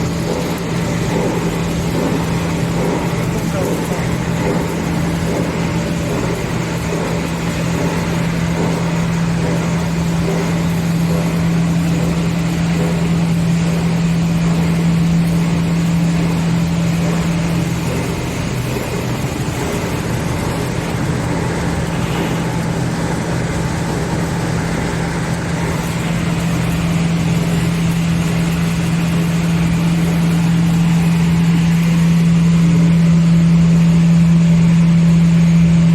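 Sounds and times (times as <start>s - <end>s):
wire granulator running: 0.0s - 35.9s.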